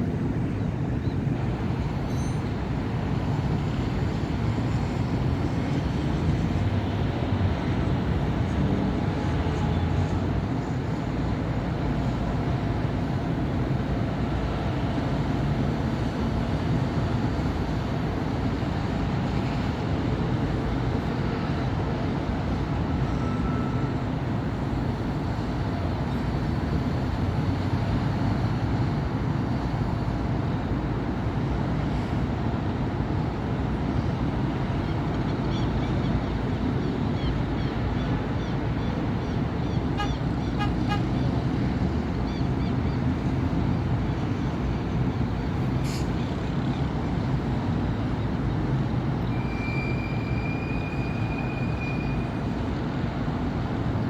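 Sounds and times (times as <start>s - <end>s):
city street traffic rumble: 0.0s - 54.0s.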